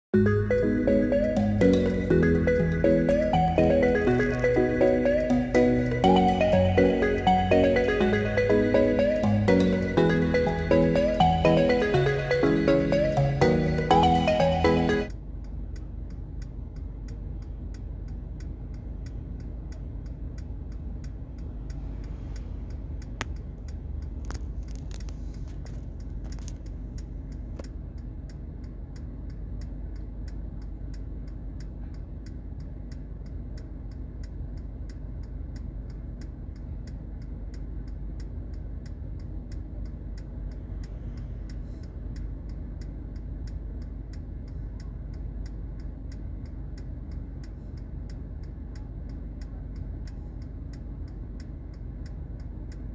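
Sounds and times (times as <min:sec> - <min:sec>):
car idling rumble: 0:00.2 - 0:52.9
light regular ticking: 0:00.2 - 0:52.9.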